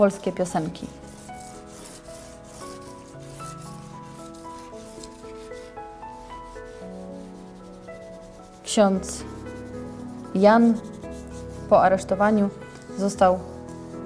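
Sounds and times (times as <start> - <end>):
soft slow background music: 0.0 - 14.0
charcoal scraping on paper: 0.6 - 13.8.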